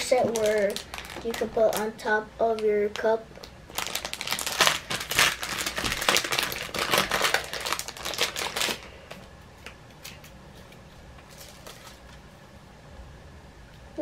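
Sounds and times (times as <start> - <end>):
packaging crinkling and clicking: 0.0 - 1.9, 2.5 - 12.2.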